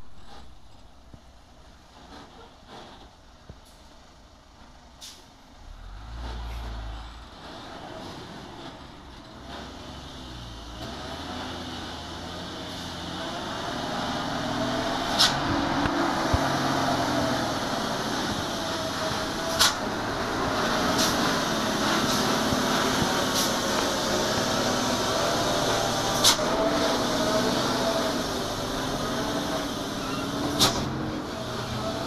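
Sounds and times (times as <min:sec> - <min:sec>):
dump truck diesel engine: 0:00.0 - 0:32.0.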